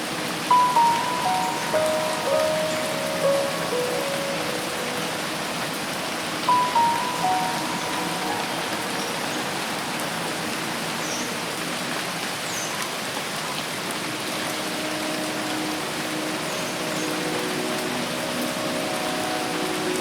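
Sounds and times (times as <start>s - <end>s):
rain falling on foliage: 0.0s - 20.0s.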